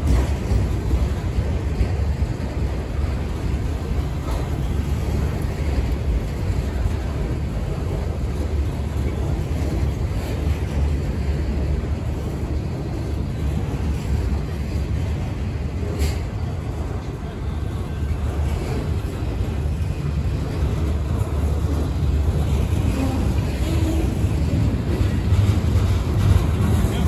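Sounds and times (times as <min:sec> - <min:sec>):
freight train rumbling past: 0:00.0 - 0:27.0.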